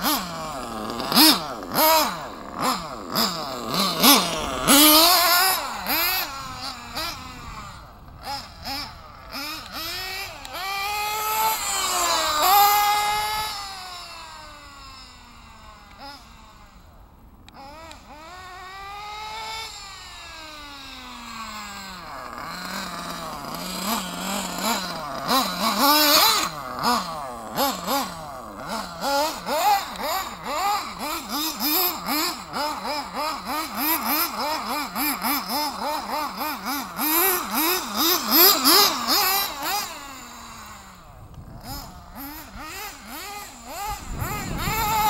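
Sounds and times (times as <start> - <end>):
small nitro engine revving: 0.0 - 45.0.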